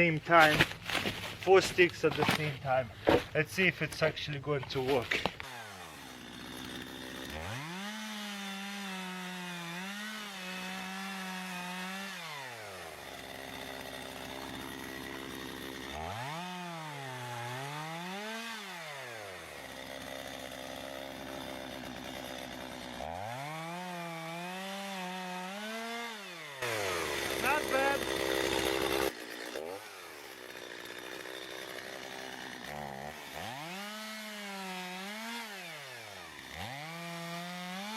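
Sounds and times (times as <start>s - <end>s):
chainsaw cutting sticks: 0.0s - 37.9s.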